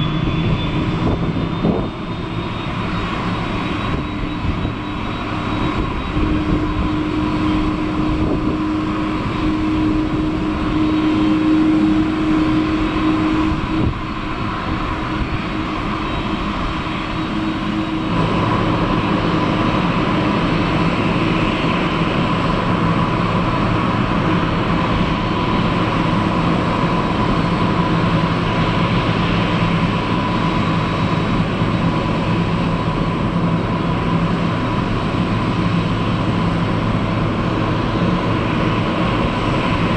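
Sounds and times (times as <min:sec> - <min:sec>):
jet engines roaring and whining: 0:00.0 - 0:39.9.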